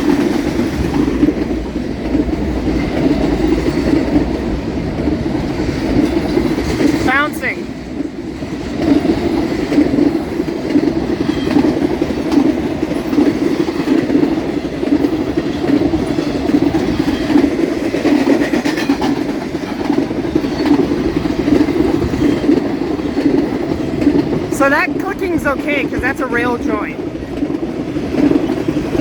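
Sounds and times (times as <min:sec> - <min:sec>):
rumble of train wheels on rail: 0:00.0 - 0:29.0.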